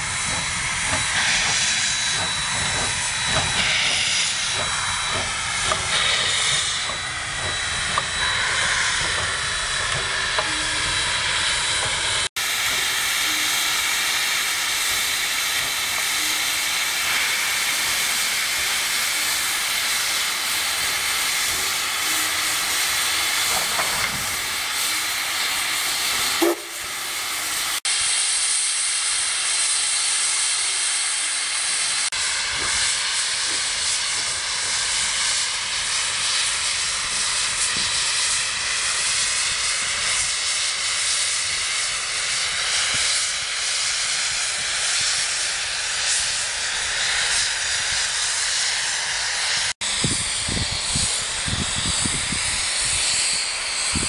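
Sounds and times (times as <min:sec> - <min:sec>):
steam locomotive hissing steam: 0:00.0 - 0:54.0.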